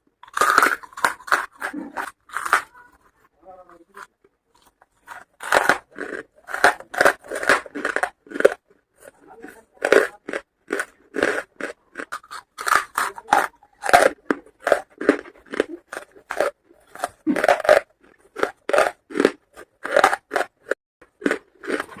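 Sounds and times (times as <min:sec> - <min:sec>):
charcoal being chewed: 0:00.0 - 0:22.0.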